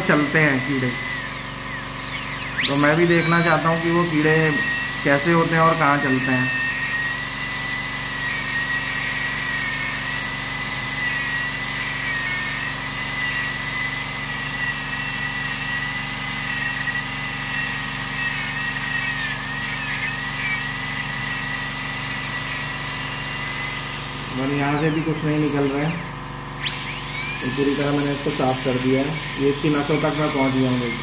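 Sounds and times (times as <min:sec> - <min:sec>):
dental drill whine: 0:00.0 - 0:31.0.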